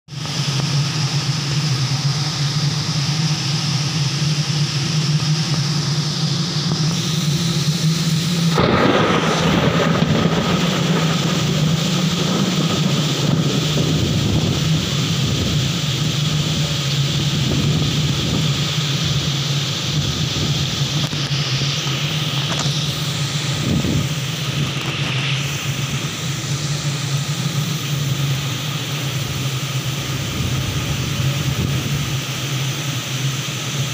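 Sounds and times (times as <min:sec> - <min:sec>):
heavy rain in strong wind: 0:00.1 - 0:33.9
low rumble: 0:00.2 - 0:33.7.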